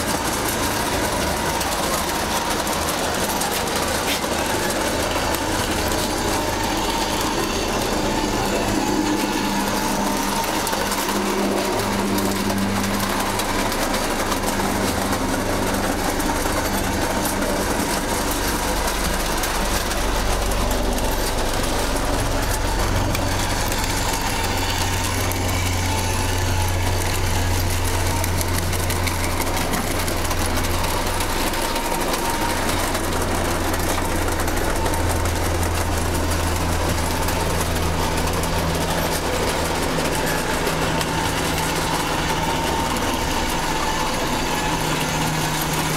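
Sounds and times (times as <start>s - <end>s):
model train motor whirring: 0.0s - 45.9s
wheels rattling on rails: 0.0s - 45.9s.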